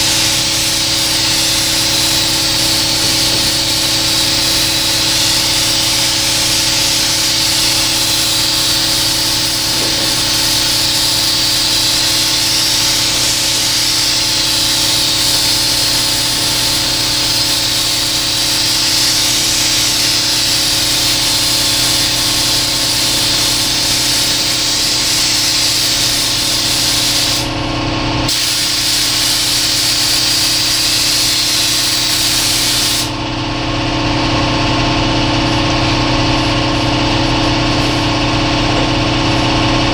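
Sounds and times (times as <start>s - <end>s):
spray gun hissing: 0.0s - 27.5s, 28.3s - 33.2s
steady mechanical hum: 0.0s - 39.9s.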